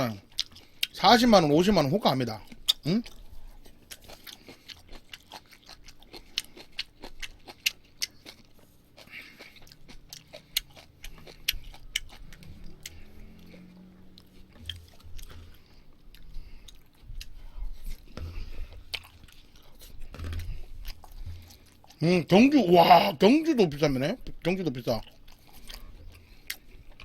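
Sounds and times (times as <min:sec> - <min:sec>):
close chewing with mouth clicks: 0:00.0 - 0:27.0.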